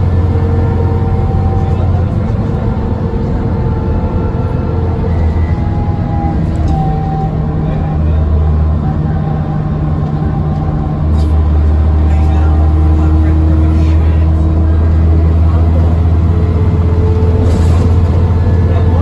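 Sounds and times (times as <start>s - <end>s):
bus diesel engine drone: 0.0s - 19.0s.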